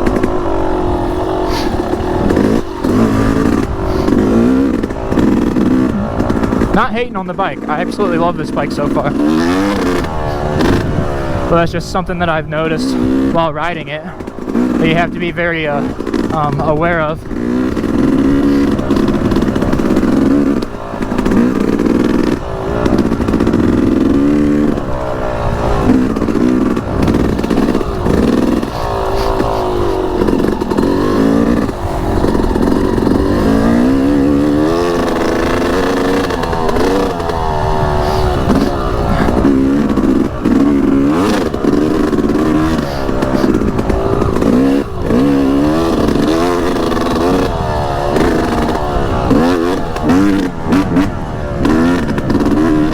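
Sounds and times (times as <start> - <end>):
two-stroke motorbike engine revving: 0.0 - 52.9.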